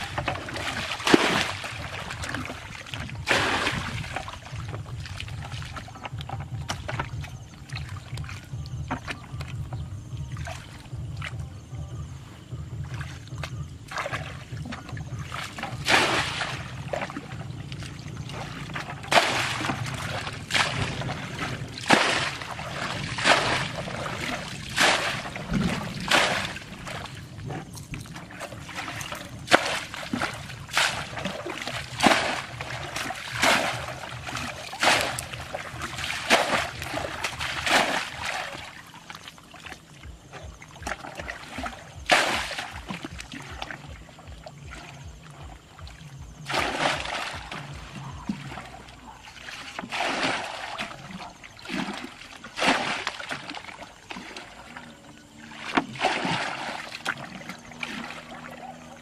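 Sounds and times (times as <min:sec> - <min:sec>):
water splashing from bucket: 0:00.0 - 0:11.9, 0:12.7 - 0:59.0.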